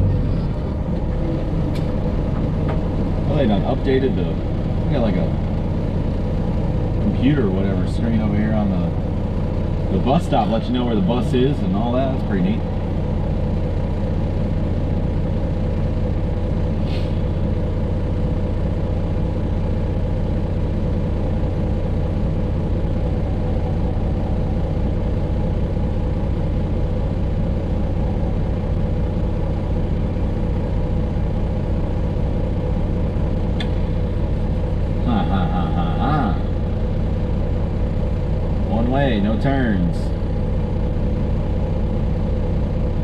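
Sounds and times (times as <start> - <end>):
diesel truck engine droning: 0.0 - 43.0.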